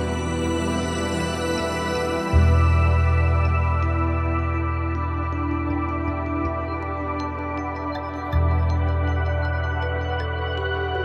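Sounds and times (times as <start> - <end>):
calm background music with bass: 0.0 - 11.0.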